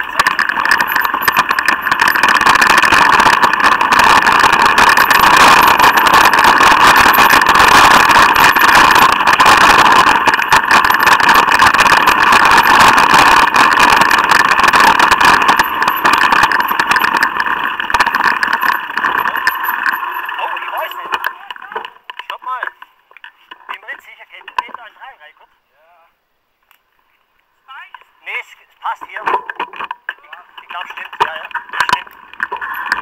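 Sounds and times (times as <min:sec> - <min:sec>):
bike rattling over bumps: 0:00.0 - 0:22.8, 0:29.2 - 0:33.0.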